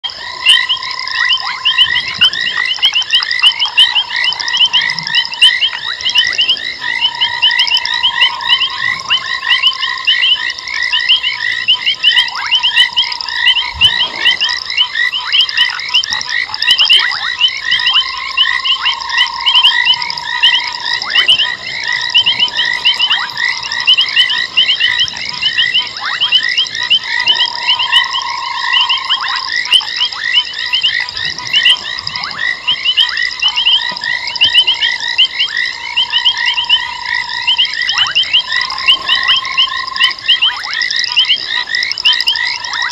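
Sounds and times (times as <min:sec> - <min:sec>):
frog chorus pulsing calls: 0:00.0 - 0:42.9
low steady frog notes: 0:00.0 - 0:42.9.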